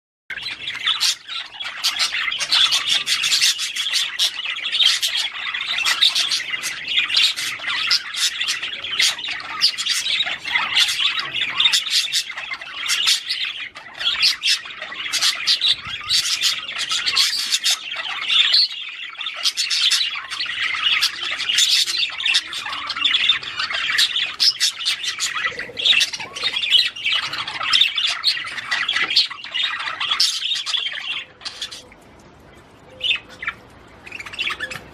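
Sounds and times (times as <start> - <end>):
budgerigars chirping and chattering: 0.3 - 34.9.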